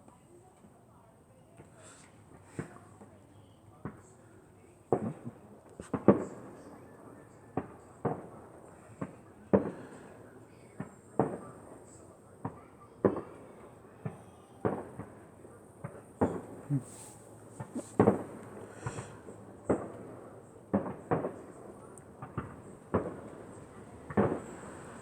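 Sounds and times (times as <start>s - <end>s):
fireworks exploding: 4.9s - 25.0s.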